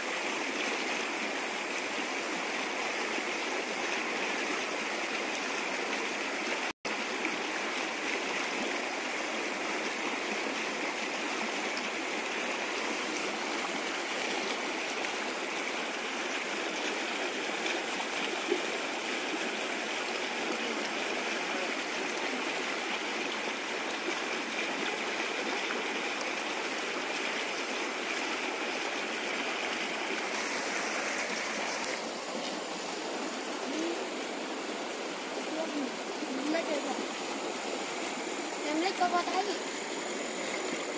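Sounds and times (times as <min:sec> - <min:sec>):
river rushing past rock: 0:00.0 - 0:40.9.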